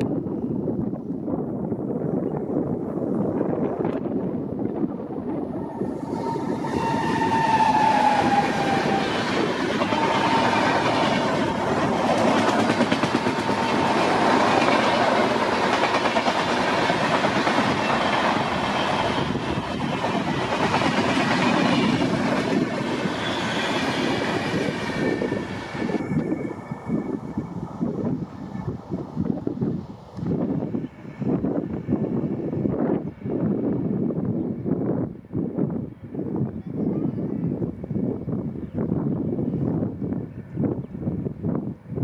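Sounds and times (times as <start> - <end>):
high locomotive whine: 0.0 - 42.0.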